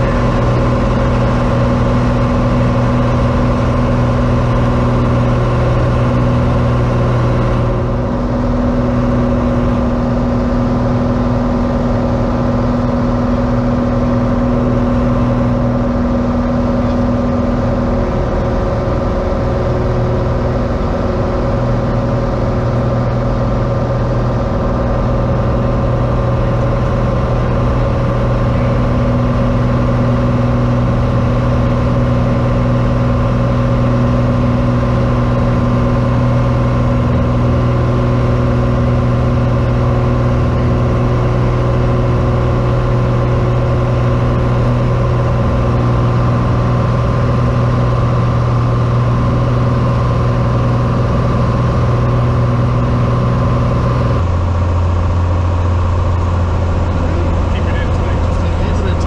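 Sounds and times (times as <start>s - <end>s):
aircraft engine droning in cabin: 0.0s - 59.0s.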